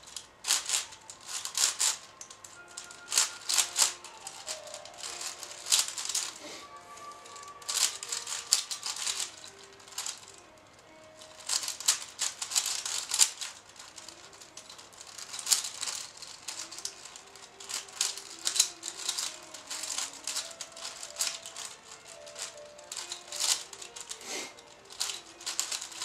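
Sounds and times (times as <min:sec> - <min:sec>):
puzzle cube clicking: 0:00.0 - 0:26.0.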